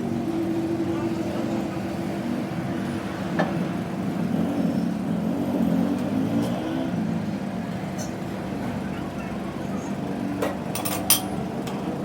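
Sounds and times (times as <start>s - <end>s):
engine running with wavering pitch: 0.0s - 10.5s.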